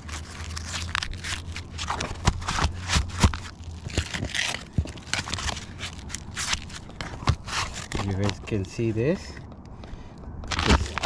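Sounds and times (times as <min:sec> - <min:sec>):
scraping and crackling on roof: 0:00.0 - 0:08.5, 0:10.5 - 0:11.0.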